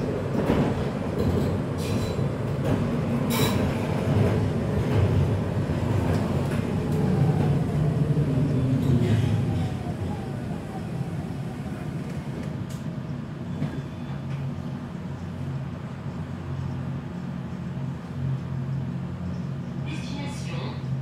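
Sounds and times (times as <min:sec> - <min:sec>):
tram wheels rumbling: 0:00.0 - 0:21.0.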